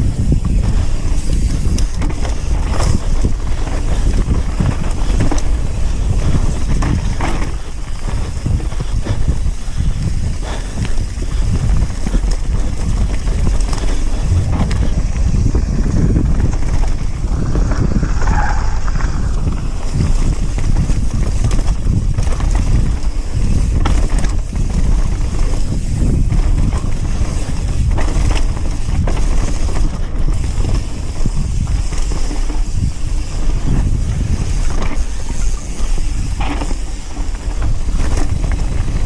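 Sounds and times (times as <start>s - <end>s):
bike clattering and knocking: 0.0s - 18.2s, 19.0s - 39.0s
bike tyre noise: 0.0s - 39.0s
wind rumble on microphone: 0.0s - 39.0s.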